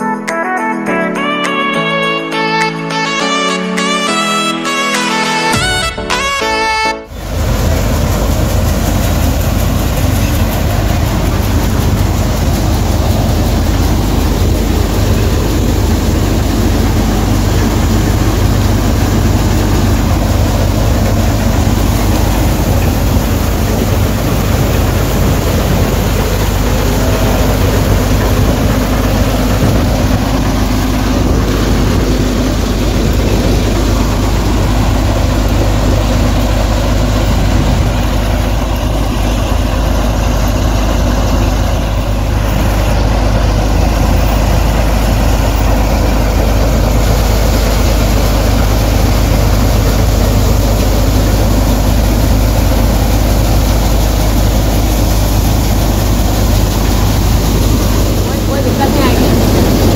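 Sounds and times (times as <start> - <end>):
diesel engine running under load: 3.8 - 59.9.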